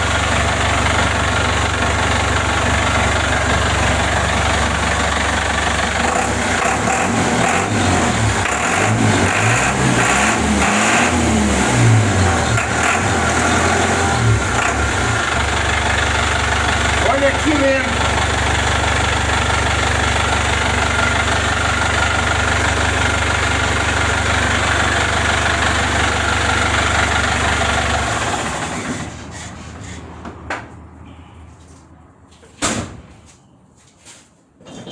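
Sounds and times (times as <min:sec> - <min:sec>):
diesel engine idling: 0:00.0 - 0:30.2.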